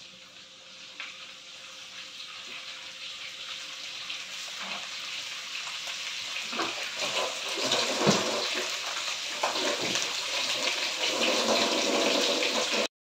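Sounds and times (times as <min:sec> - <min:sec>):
tap water running into sink: 0:01.9 - 0:12.9.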